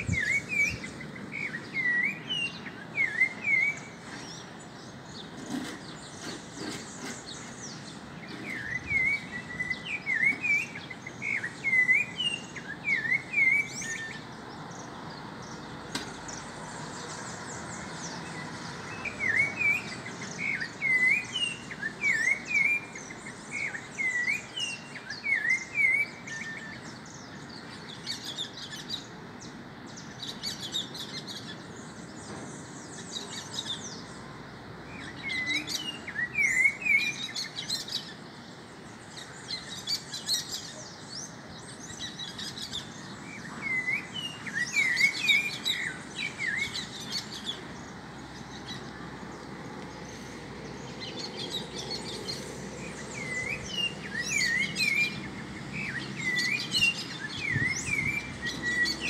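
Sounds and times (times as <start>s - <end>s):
birds whistling repeated notes: 0.0s - 29.3s, 34.9s - 59.0s
birds chirping: 0.0s - 59.0s.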